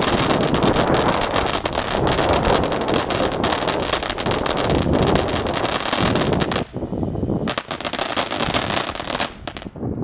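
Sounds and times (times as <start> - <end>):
fireworks fountain crackling: 0.0 - 9.9.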